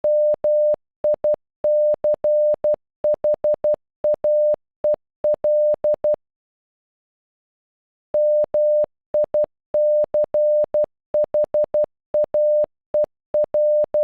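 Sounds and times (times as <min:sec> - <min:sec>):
morse code beeps: 0:00.0 - 0:04.6, 0:05.3 - 0:06.2, 0:08.2 - 0:14.0.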